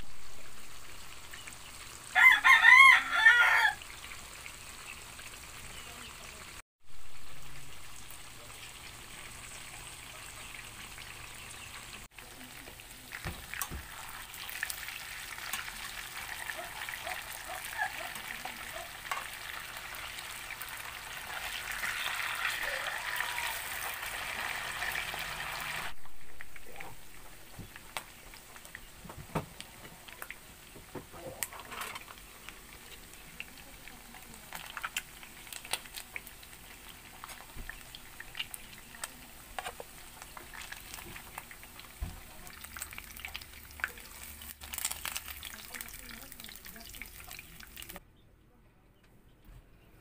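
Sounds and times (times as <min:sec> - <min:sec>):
oil sizzling around frying fish: 0:00.0 - 0:48.0.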